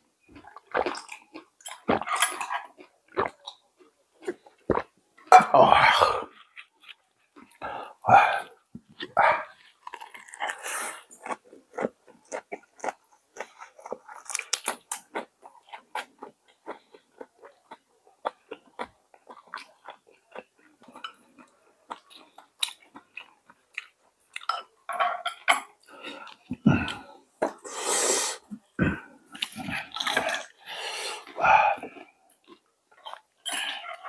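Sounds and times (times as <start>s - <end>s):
person chewing with wet clicks: 0.3s - 5.3s, 6.3s - 7.6s, 8.4s - 27.6s, 29.3s - 30.6s, 31.2s - 34.0s.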